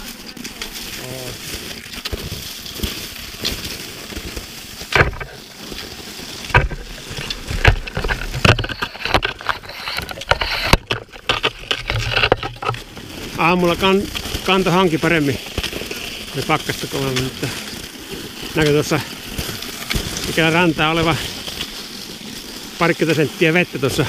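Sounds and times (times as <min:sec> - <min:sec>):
footsteps crunching through snow: 0:00.0 - 0:24.0.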